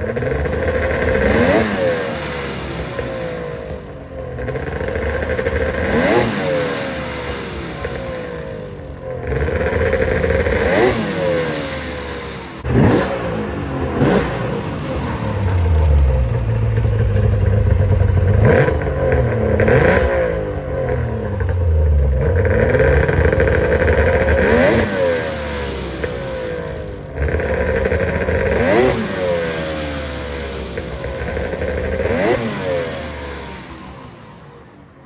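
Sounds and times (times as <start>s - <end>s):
snowmobile engine revving: 0.0s - 34.7s.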